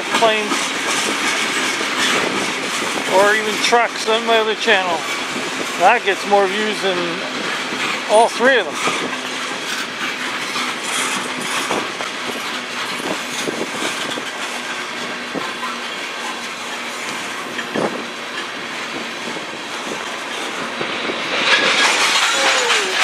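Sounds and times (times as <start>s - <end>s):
freight train rolling past: 0.0s - 23.0s
wheels clicking over rail joints: 0.0s - 23.0s.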